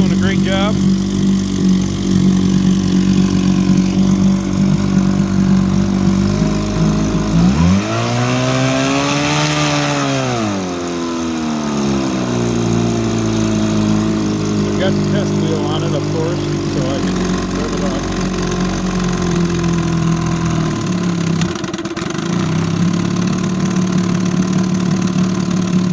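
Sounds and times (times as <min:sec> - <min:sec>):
outboard motor idling and revving: 0:00.0 - 0:25.9.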